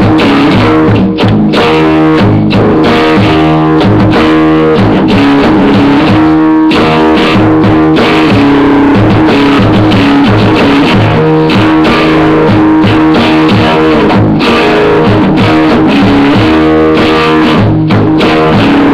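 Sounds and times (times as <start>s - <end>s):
bass notes: 0.0s - 18.9s
rock guitar strumming chords: 0.0s - 18.9s.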